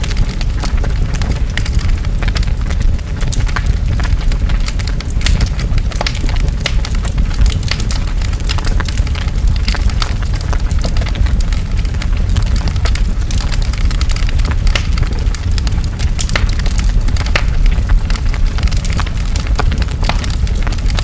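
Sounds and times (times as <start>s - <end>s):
burning wood crackling and popping: 0.0s - 21.0s
deep fire rumble: 0.0s - 21.0s.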